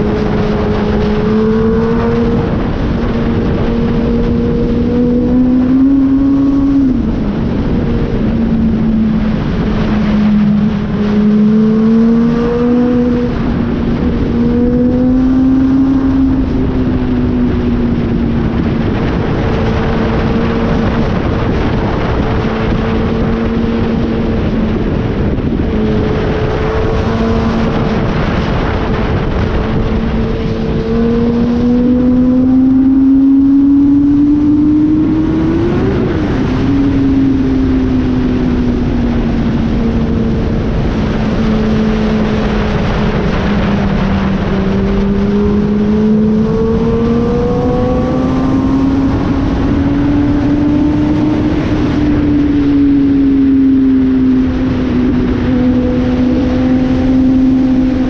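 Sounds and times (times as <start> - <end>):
motorcycle engine cruising: 0.0 - 58.0
wind rushing: 0.0 - 58.0.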